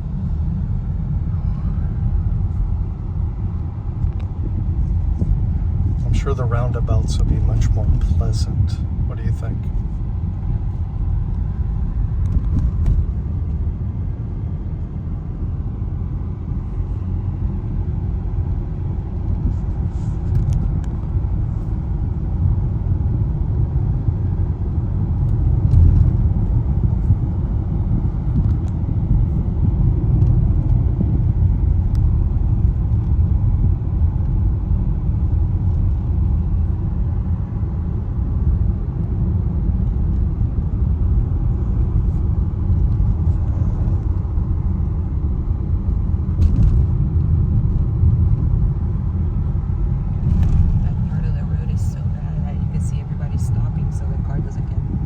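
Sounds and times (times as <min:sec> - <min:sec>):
tyre and engine rumble: 0:00.0 - 0:55.0.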